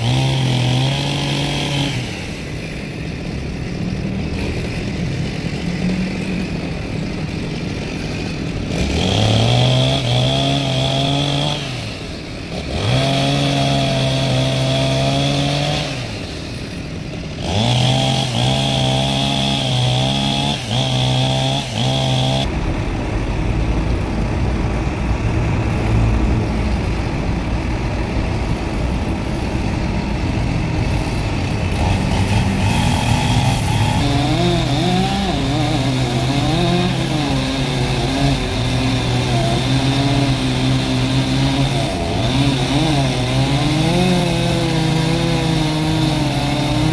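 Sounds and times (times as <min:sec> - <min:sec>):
chainsaw engine revving: 0:00.0 - 0:46.9.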